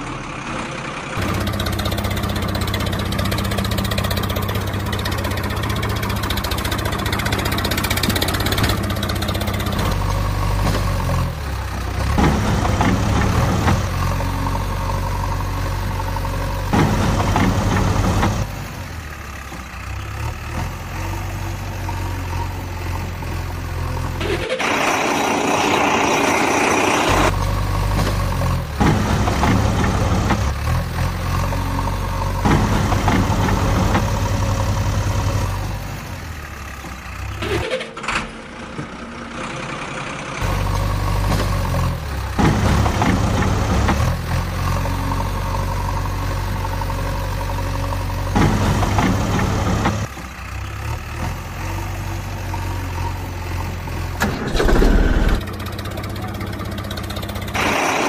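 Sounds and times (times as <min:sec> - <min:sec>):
heavy vehicle engine rumbling: 0:00.0 - 0:58.0.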